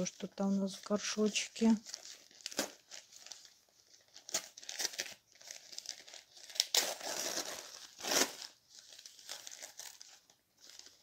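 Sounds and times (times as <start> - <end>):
newspaper crinkling and tearing: 0.0 - 11.0.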